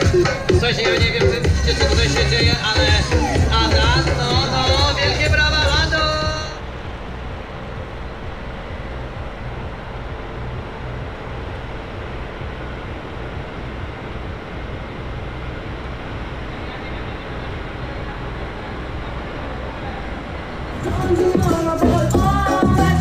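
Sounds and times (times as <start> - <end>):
outdoor rumble and hiss: 0.0 - 23.0.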